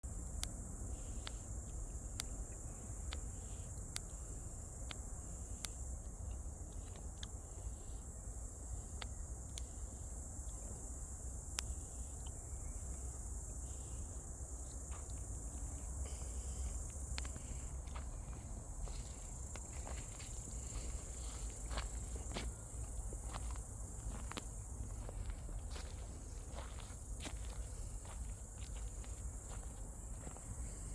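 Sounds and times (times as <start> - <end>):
insects chirring: 0.1 - 30.9.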